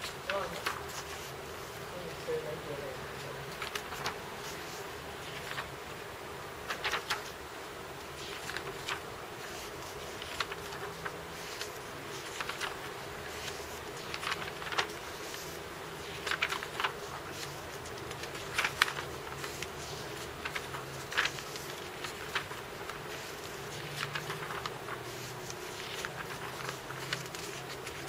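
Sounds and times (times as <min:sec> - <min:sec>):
paper pages turning: 0:00.0 - 0:01.7, 0:03.2 - 0:06.0, 0:06.6 - 0:28.0
steady low hum: 0:00.0 - 0:28.0.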